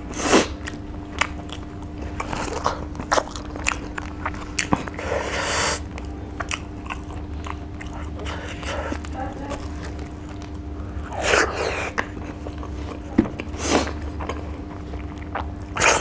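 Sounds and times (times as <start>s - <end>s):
chewing and biting food: 0.0s - 16.0s
steady low hum: 0.0s - 16.0s.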